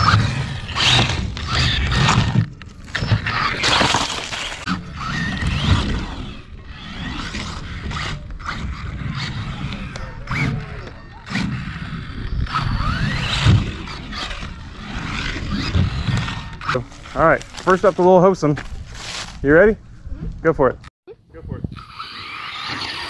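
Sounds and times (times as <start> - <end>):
electric motor whining: 0.0 - 17.9, 21.6 - 23.0.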